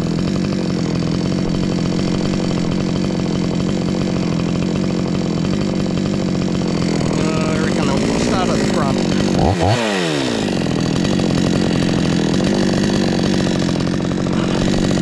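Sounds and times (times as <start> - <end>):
chainsaw engine running: 0.0 - 15.0.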